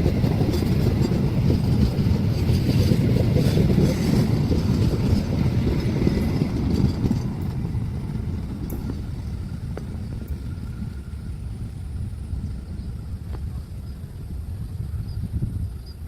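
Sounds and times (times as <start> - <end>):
train rumbling past: 0.0 - 16.0
wheels clattering on rails: 0.0 - 16.0.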